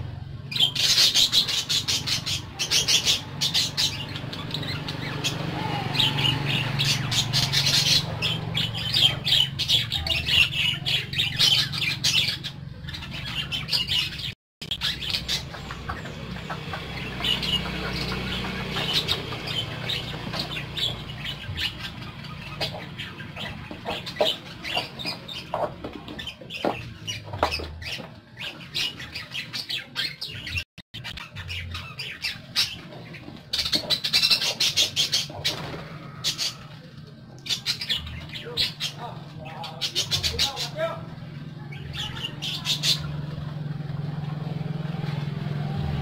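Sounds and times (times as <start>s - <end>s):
budgerigars chattering: 0.5s - 36.8s, 37.4s - 41.0s, 41.6s - 43.3s.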